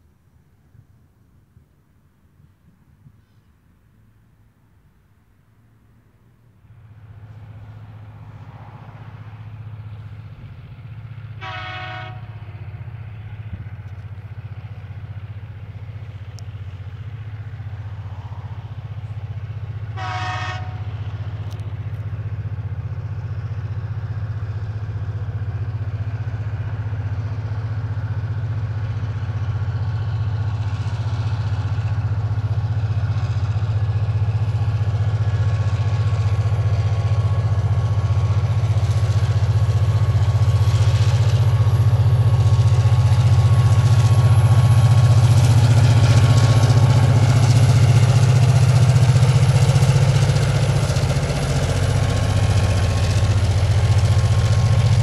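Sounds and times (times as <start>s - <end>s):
diesel locomotives droning: 5.7s - 55.0s.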